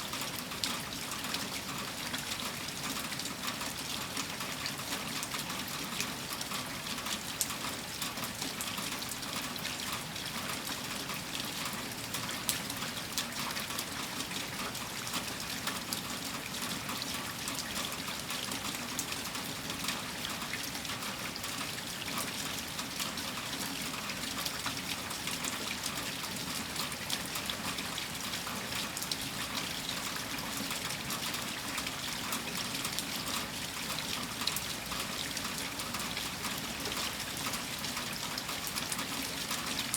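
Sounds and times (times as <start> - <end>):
heavy rain: 0.1 - 39.9
water trickling and dripping: 0.1 - 39.9.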